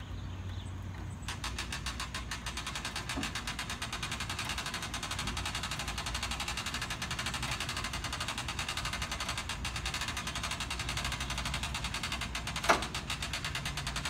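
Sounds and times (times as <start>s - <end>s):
hand winch clicking: 1.2s - 14.0s.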